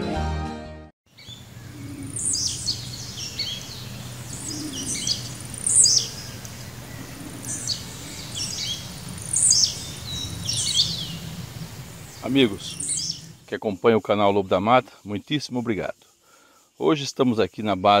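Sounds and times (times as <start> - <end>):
wild birds singing: 1.1 - 18.0.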